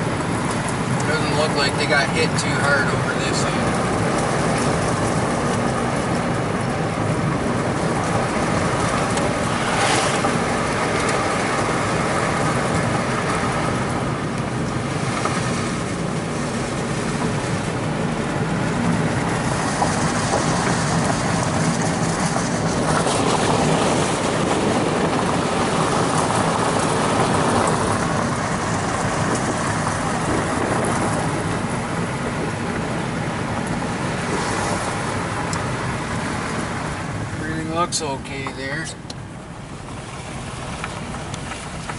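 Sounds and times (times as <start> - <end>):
car engine and tyre noise: 0.0 - 41.9.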